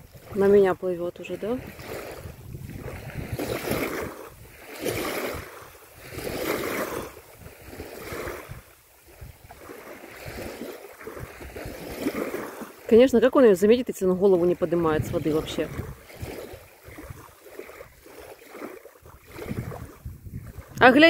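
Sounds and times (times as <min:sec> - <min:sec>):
waves lapping at bank: 0:00.0 - 0:21.0
wind buffeting microphone: 0:00.0 - 0:21.0.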